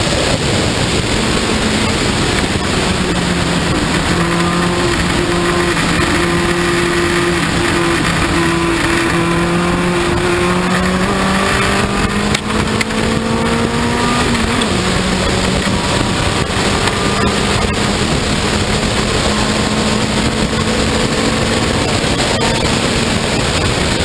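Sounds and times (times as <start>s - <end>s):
racing car engine accelerating: 0.0s - 24.0s
wind rush: 0.0s - 24.0s.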